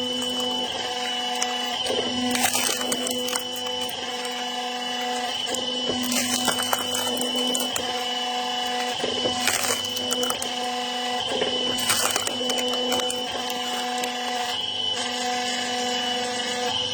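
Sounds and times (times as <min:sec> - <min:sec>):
logs cracking and clattering: 0:00.0 - 0:14.7
log splitter mechanical hum: 0:00.0 - 0:16.9.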